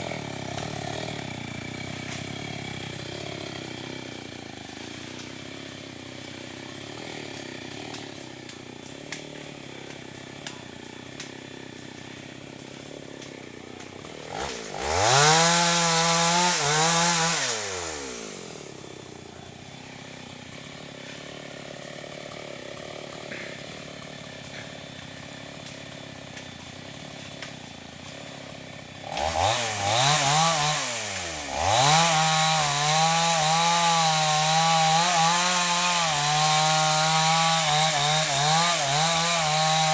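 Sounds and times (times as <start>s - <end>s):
chainsaw cutting wood: 0.0s - 39.9s
chainsaw revving: 0.0s - 39.9s.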